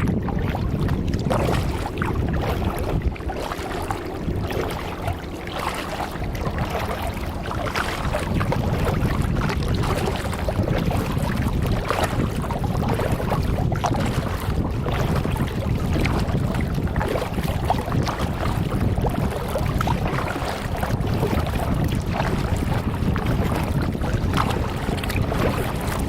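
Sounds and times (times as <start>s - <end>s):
low rumble: 0.0s - 26.0s
waves lapping against kayak hull: 0.0s - 26.0s.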